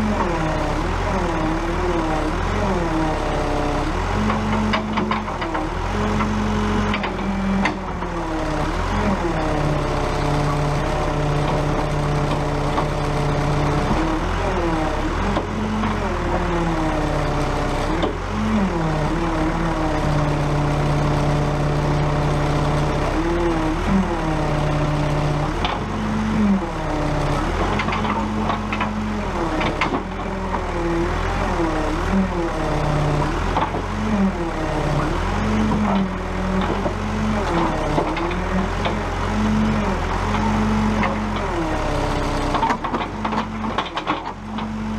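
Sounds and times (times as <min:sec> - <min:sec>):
backhoe diesel engine under load: 0:00.0 - 0:44.9.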